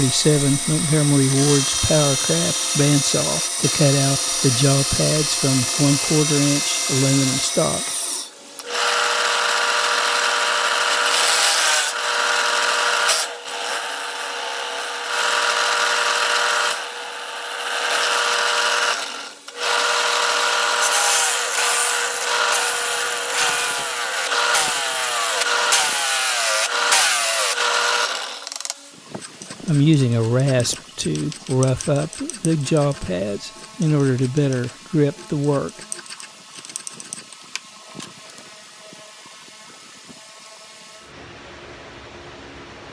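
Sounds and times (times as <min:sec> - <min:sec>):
saw blade cutting metal: 0:00.0 - 0:38.2
bandsaw motor humming: 0:00.0 - 0:38.5.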